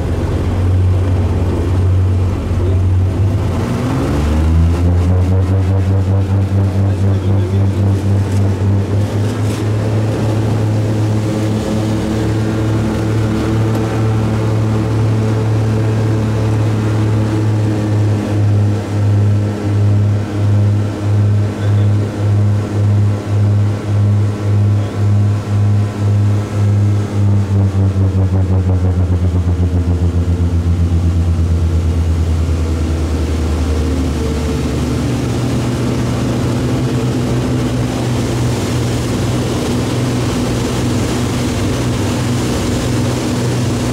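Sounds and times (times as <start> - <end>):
airflow rushing: 0.0 - 43.9
propeller aircraft engine drone: 0.0 - 43.9.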